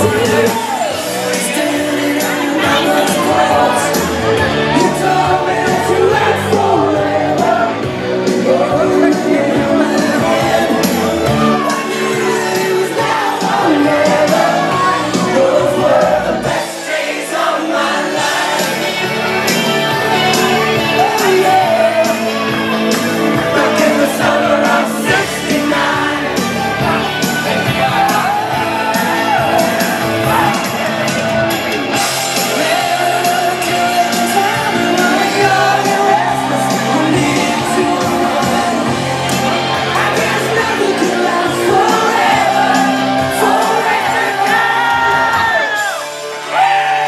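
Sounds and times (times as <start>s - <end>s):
crowd shouting and whooping: 0.0s - 47.0s
pop-rock song with singer: 0.0s - 47.0s.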